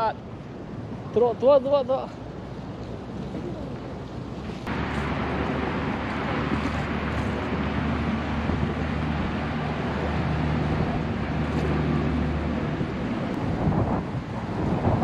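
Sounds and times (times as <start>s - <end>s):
low engine hum: 2.2s - 15.0s
wind on microphone: 2.2s - 15.0s.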